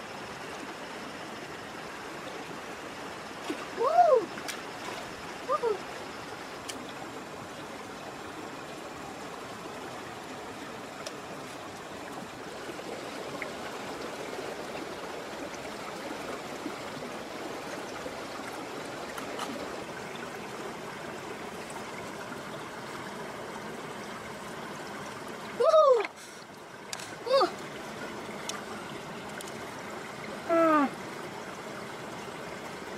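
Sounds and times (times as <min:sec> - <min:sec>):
stream water flowing: 0:00.0 - 0:32.9.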